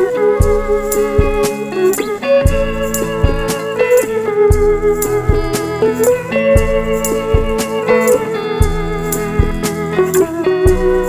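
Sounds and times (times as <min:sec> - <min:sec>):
sliding guitar melody: 0:00.0 - 0:11.0
steady drum beat: 0:00.0 - 0:11.0.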